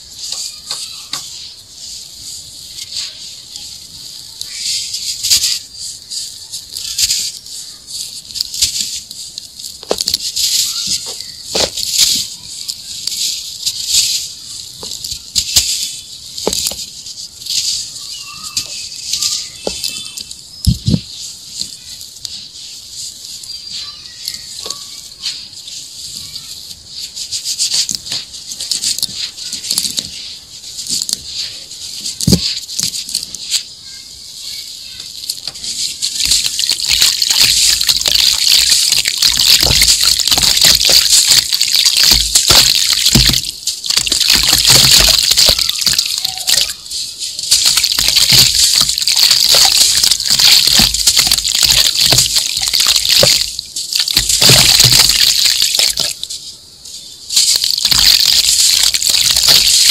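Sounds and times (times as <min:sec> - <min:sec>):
sand sifting through fingers: 0:00.0 - 0:59.9.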